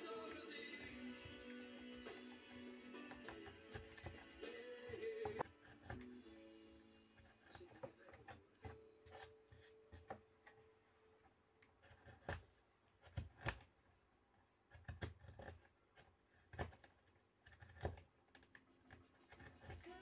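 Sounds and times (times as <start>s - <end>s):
knife carving and scraping wood: 0.1s - 6.4s, 7.0s - 20.0s.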